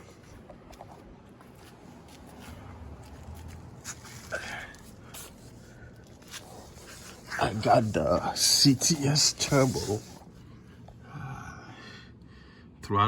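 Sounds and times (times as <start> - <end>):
soft rustles: 0.0 - 10.6
low steady hum: 0.0 - 13.0.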